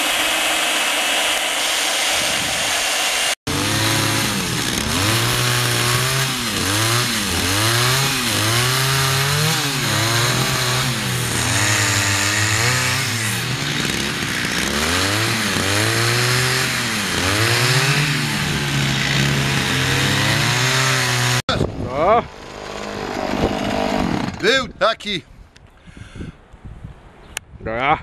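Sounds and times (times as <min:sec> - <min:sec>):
chainsaw revving cutting wood: 0:00.0 - 0:21.6, 0:22.3 - 0:24.6.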